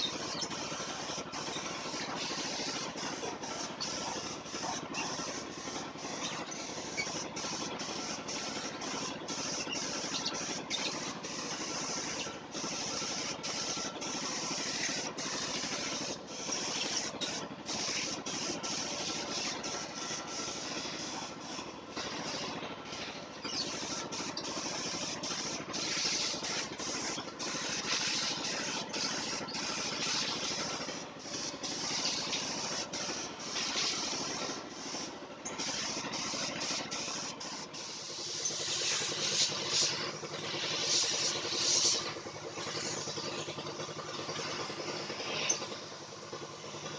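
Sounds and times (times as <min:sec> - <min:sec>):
paint spray gun hissing: 0:00.0 - 0:46.9
steady machine hum: 0:00.0 - 0:46.9.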